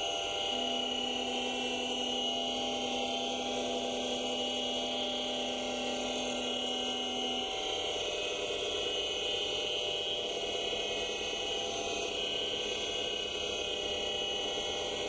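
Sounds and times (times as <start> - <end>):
lathe spindle humming and whining: 0.0 - 15.0.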